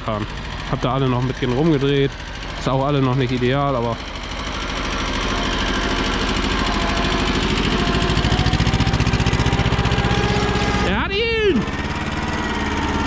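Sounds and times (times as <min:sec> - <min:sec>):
tractor diesel engine chugging: 0:00.0 - 0:13.0.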